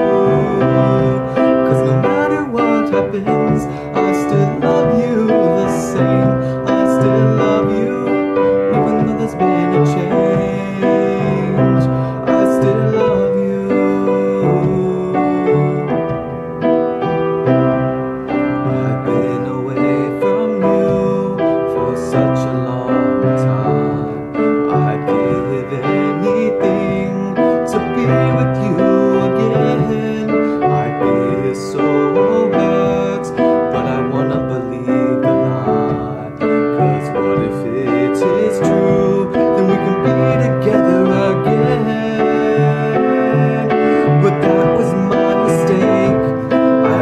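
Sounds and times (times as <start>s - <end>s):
piano playing slow ballad: 0.0s - 47.0s.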